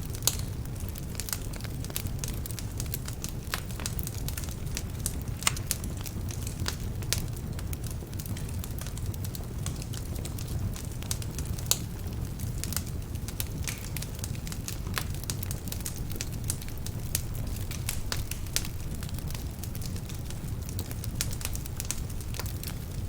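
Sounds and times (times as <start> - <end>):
logs crackling and popping: 0.0 - 23.0
low rumble of flames: 0.0 - 23.0.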